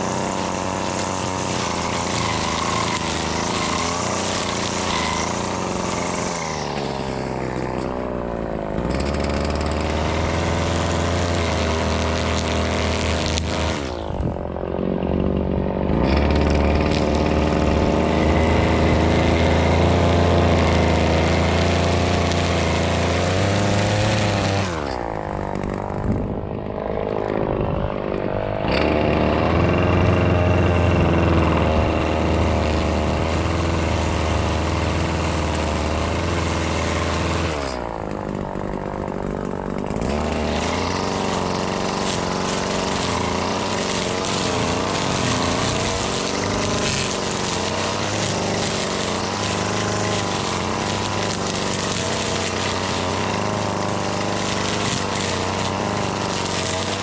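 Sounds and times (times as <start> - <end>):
string trimmer revving: 0.0 - 57.0.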